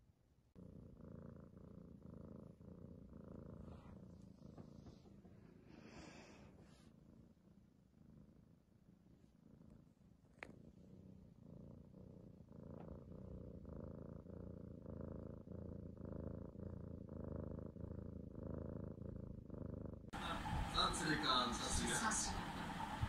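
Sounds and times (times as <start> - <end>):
kitten purring: 0.0 - 23.0.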